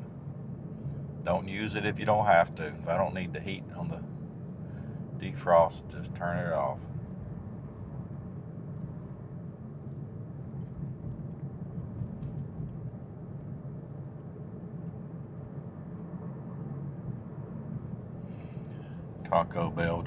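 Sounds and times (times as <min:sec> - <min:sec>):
road and tyre noise in car cabin: 0:00.0 - 0:20.0.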